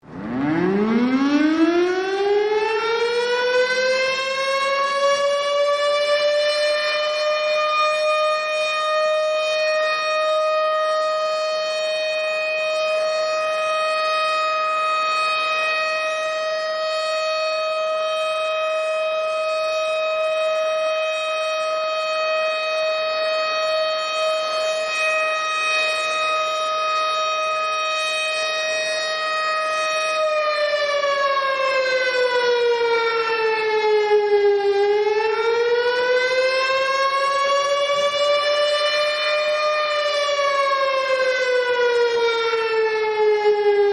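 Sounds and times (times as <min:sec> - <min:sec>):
warning siren wailing: 0:00.0 - 0:43.9.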